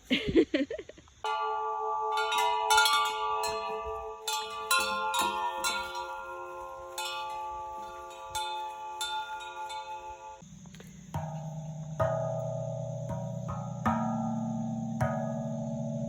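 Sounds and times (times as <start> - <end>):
tuned metal chimes struck: 1.3 - 16.0.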